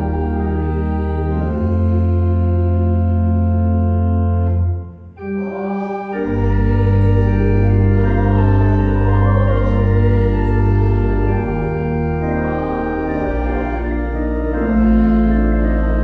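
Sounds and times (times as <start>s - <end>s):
church organ chords: 0.0s - 16.0s
deep organ pedal bass: 0.0s - 16.0s.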